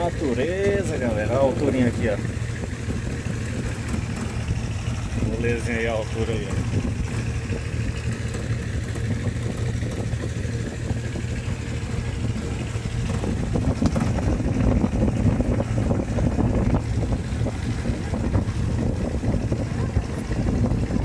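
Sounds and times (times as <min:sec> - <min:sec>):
vehicle engine running: 0:00.0 - 0:21.0
wind buffeting microphone: 0:00.0 - 0:21.0.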